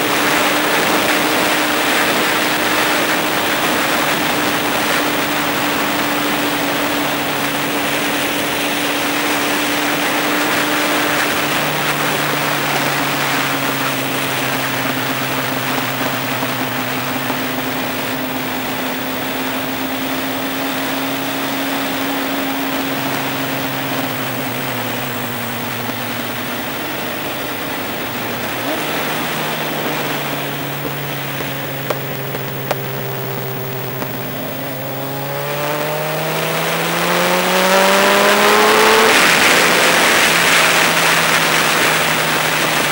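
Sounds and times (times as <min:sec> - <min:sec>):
motorcycle engine running: 0:00.0 - 0:42.9
wind noise: 0:00.0 - 0:42.9.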